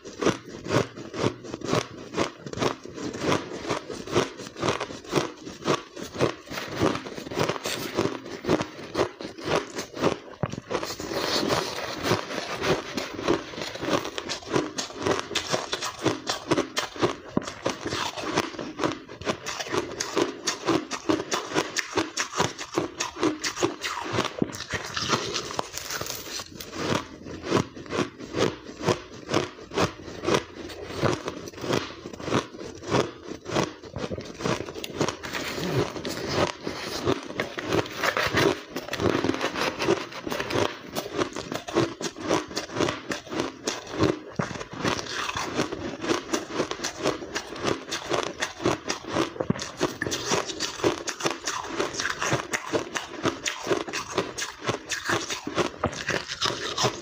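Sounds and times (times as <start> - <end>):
chewing crushed ice crunches: 0.0 - 57.0.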